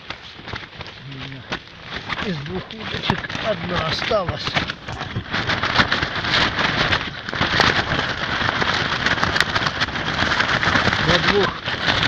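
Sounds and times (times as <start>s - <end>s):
tent fabric rattling: 0.0s - 12.0s
gusty wind: 1.5s - 12.0s.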